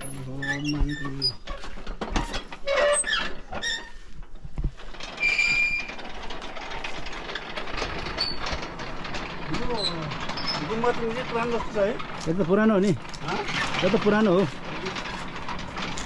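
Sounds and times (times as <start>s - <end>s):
metal prayer wheels rattling: 0.0s - 16.0s.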